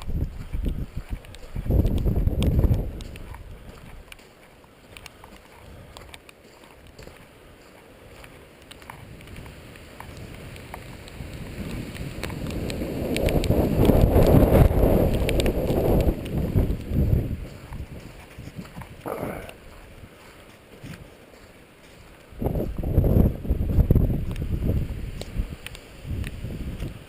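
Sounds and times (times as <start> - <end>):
wind buffeting microphone: 0.0 - 4.2, 6.9 - 21.4, 22.0 - 27.0.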